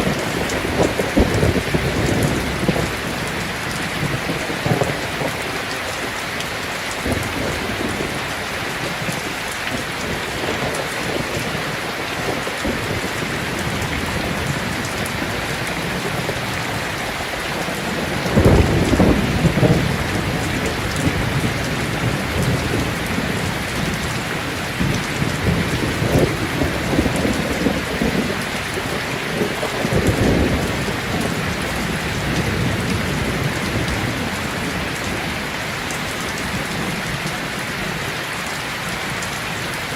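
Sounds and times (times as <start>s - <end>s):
thunder rumbling: 0.0s - 38.2s
heavy rain: 0.0s - 39.9s.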